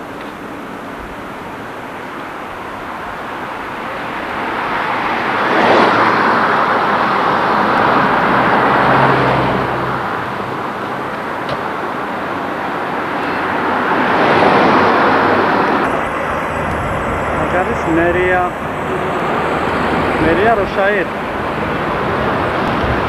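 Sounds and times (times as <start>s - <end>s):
vehicle passing: 3.0s - 23.0s.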